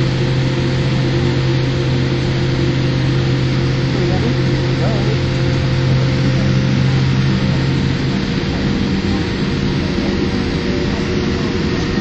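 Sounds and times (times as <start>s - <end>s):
jet cabin rushing noise: 0.0s - 12.0s
low hum: 0.0s - 12.0s.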